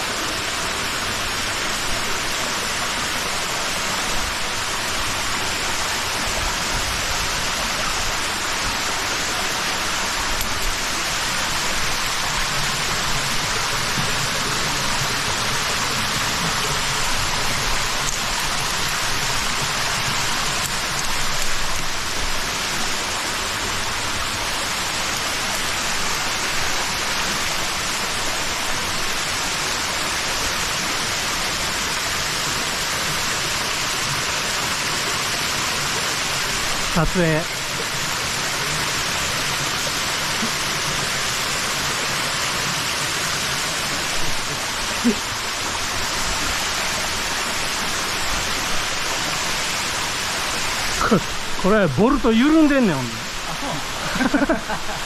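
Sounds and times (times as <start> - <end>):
stream water rushing over rocks: 0.0 - 55.0.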